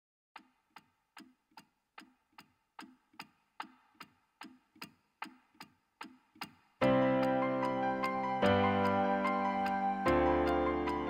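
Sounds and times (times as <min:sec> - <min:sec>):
clock-like ticking: 0:00.4 - 0:11.0.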